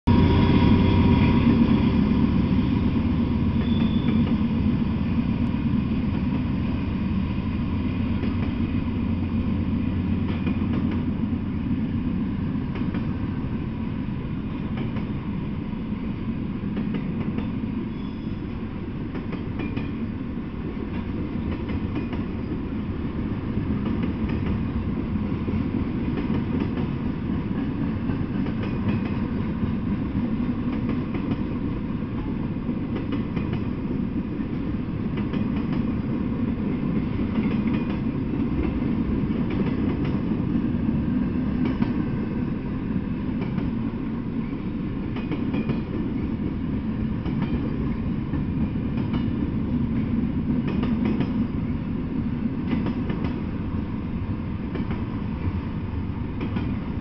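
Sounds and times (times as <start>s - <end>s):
diesel locomotive passing: 0.0s - 57.0s
freight train wheels rumbling: 0.0s - 57.0s.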